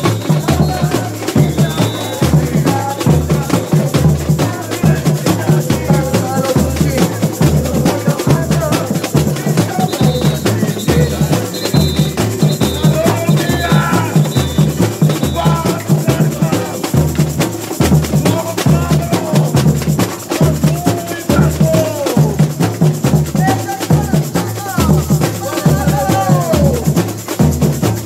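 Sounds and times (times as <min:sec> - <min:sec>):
bass drums thumping: 0:00.0 - 0:27.0
snare and shaker percussion: 0:00.0 - 0:28.0.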